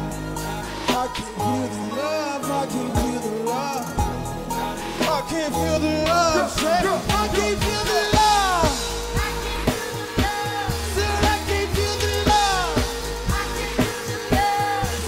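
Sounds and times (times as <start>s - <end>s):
drum kit beat: 0.0s - 1.8s, 2.4s - 15.0s
low bass: 0.0s - 1.9s, 4.0s - 15.0s
person singing: 0.0s - 15.0s.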